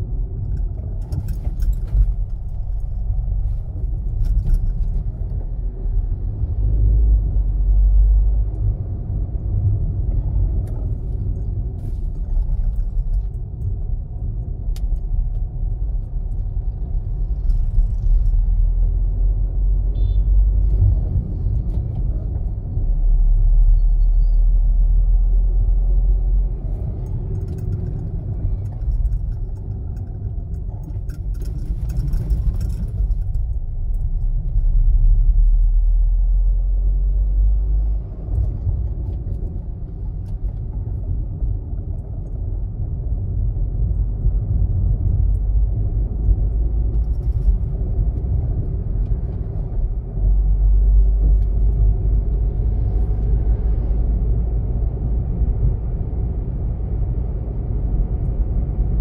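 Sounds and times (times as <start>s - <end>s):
car road rumble from cabin: 0.0s - 59.0s.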